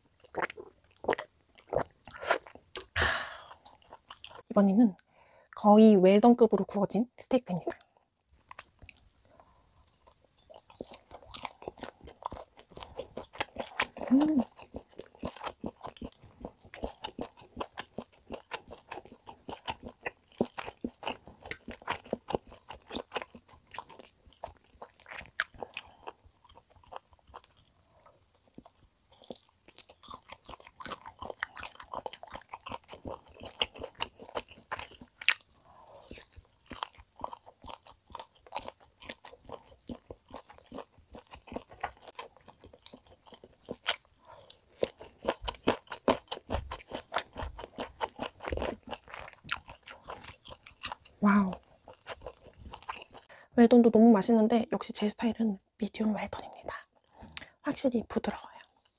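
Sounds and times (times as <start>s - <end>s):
wet chewing: 0.2s - 4.5s, 7.7s - 53.4s.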